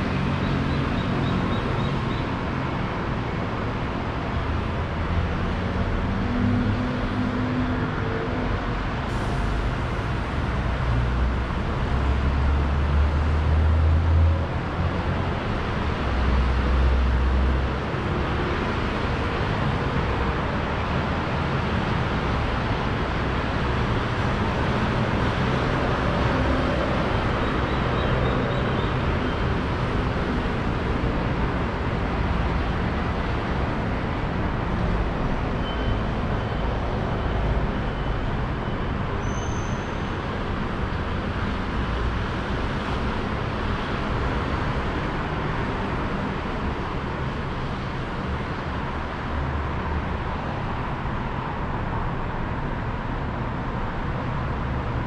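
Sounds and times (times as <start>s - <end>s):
passing cars: 0.0s - 55.0s.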